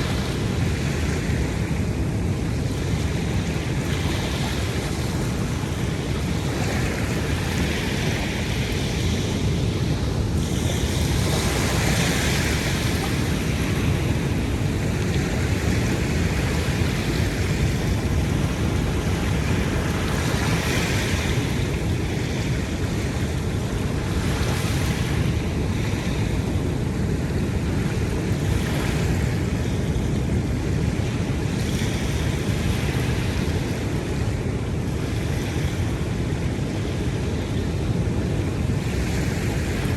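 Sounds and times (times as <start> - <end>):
ocean surf rumble: 0.0 - 39.9
waves breaking: 0.0 - 39.9.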